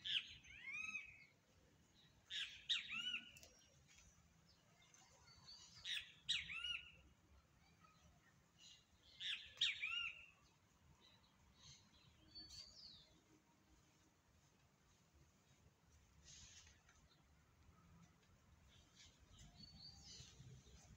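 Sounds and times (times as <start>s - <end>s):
songbird chirping: 0.0s - 20.9s.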